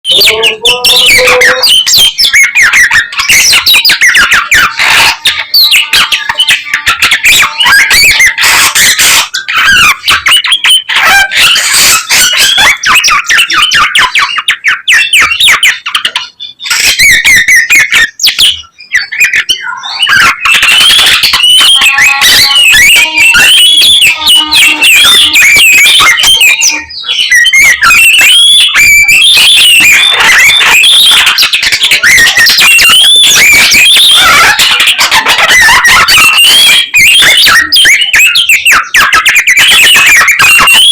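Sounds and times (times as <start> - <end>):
songbird chirping and warbling: 0.1 - 40.9.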